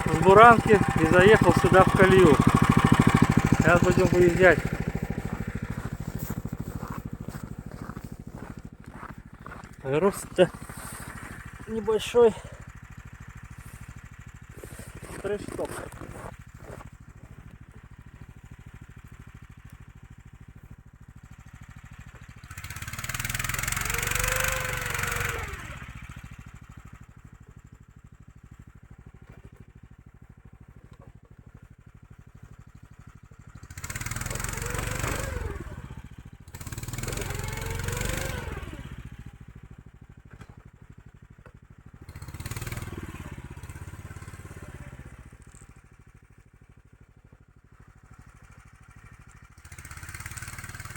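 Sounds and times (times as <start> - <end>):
snow tow engine revving: 0.0 - 20.6, 21.2 - 27.4, 32.5 - 40.6, 41.9 - 46.0, 47.9 - 50.9.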